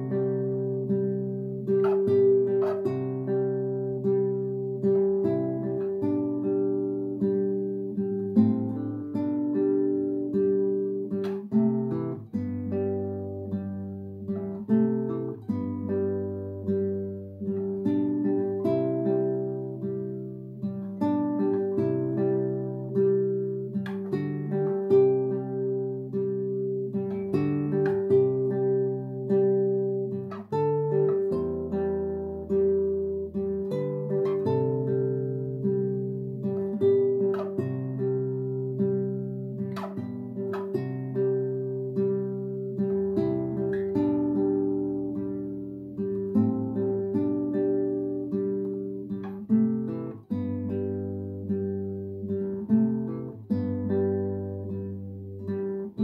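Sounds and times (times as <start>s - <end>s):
classical guitar fingerstyle: 0.0s - 56.0s.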